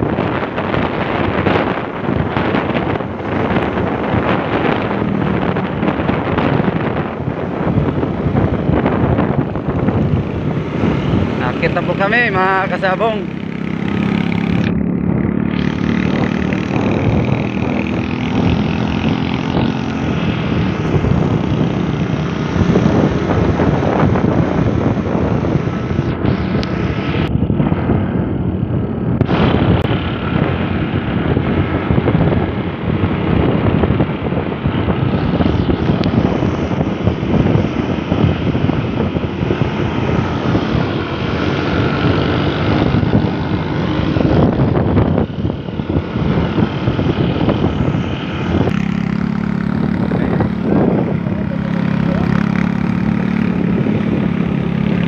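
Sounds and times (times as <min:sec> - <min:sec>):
motorcycle engine running: 0:00.0 - 0:55.0
wind rush: 0:00.0 - 0:55.0.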